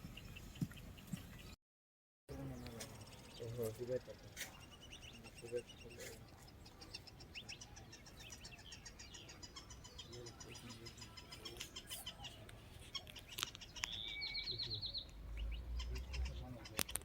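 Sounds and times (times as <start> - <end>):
birds chirping and calling: 0.0 - 1.6, 2.3 - 17.0
bird trill: 2.3 - 17.0.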